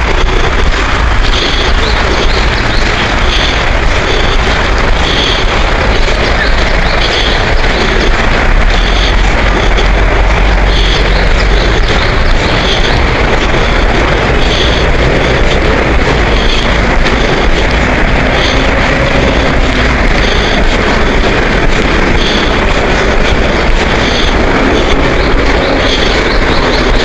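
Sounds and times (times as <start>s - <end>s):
loud steady rushing noise: 0.0s - 27.0s.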